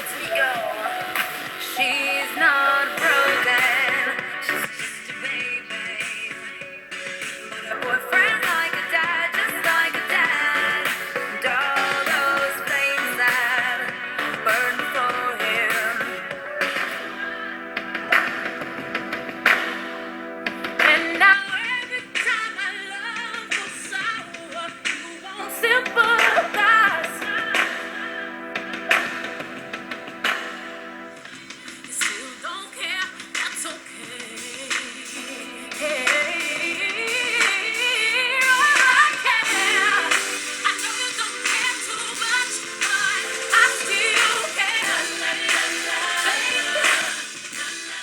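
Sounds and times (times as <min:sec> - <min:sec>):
pop song through small speakers: 0:00.0 - 0:48.0.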